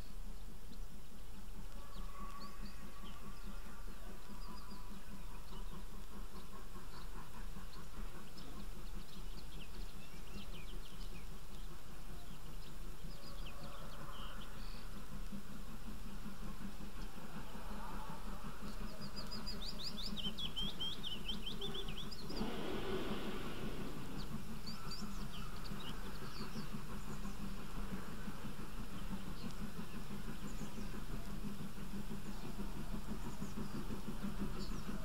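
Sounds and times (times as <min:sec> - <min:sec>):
distant railway yard rumble: 0:00.0 - 0:35.0.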